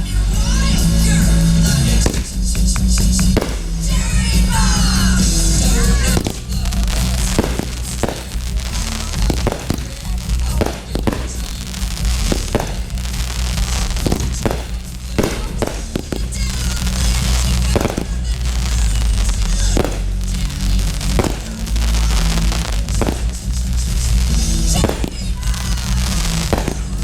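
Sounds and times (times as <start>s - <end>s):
music with heavy bass: 0.0s - 27.0s
fireworks shells bursting: 0.4s - 27.0s.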